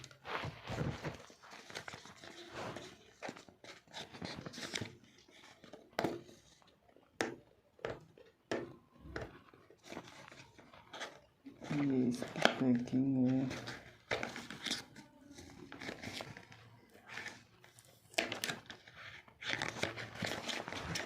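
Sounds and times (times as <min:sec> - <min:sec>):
packaging rustling: 0:00.0 - 0:06.7, 0:09.2 - 0:21.0.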